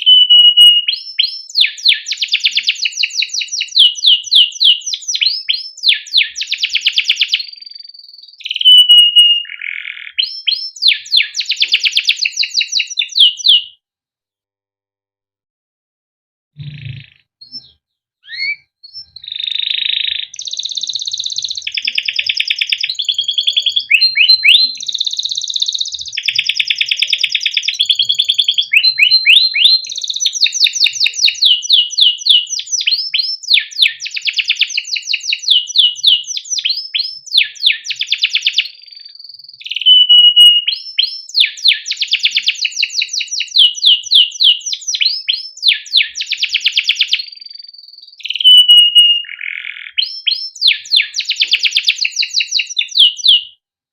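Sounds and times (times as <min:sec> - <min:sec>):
canary singing: 0:00.0 - 0:13.8, 0:16.6 - 0:53.6.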